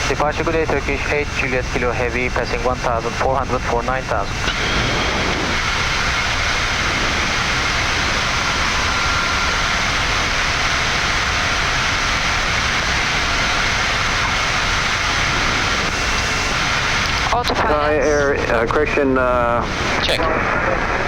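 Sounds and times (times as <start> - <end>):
airflow and jet engine noise: 0.0 - 21.0
faint high whine: 0.0 - 21.0.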